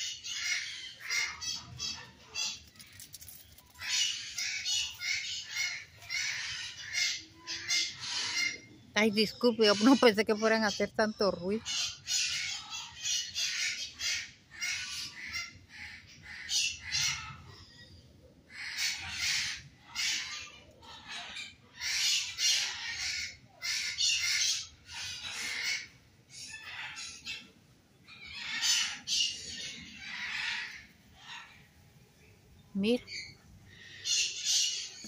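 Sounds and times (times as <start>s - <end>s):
birds squawking: 0.0s - 31.8s, 32.8s - 35.0s.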